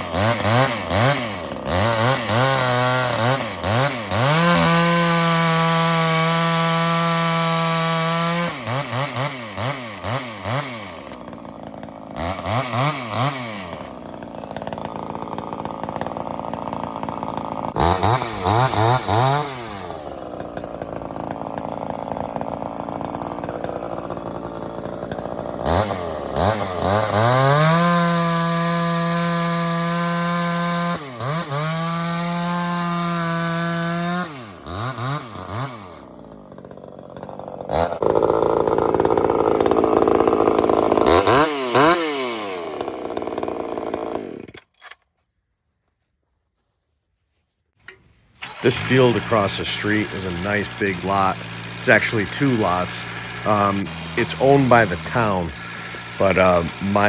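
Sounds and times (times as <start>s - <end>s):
chainsaw revving at full throttle: 0.0s - 44.6s, 48.4s - 57.0s.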